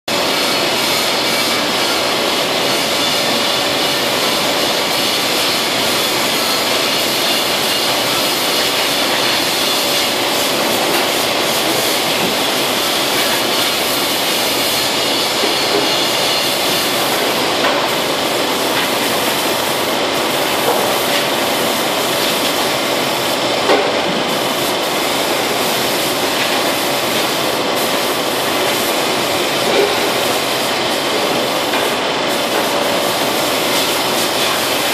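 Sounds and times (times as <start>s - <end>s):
machinery hum: 0.1s - 34.9s
spray gun hissing: 4.0s - 34.9s.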